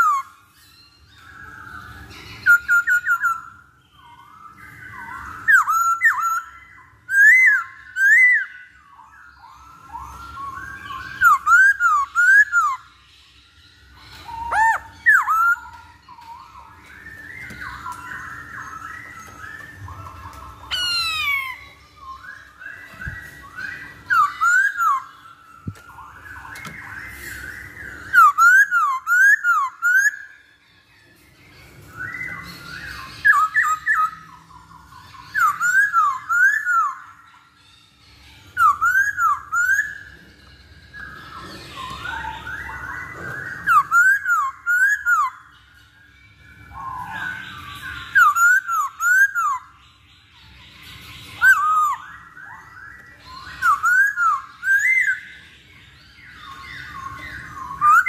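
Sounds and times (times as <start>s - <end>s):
bird whistled song phrases: 0.0s - 58.0s.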